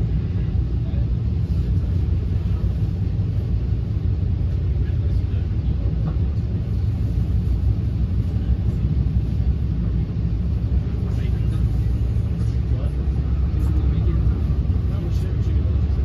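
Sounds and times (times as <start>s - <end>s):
train coach low rumble: 0.0s - 16.0s.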